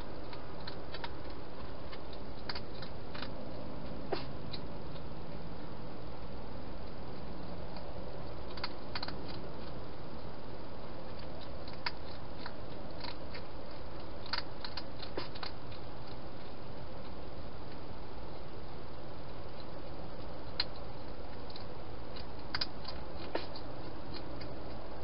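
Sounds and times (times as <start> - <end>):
hedgehog chewing: 0.0 - 25.0
steady background hiss: 0.0 - 25.0.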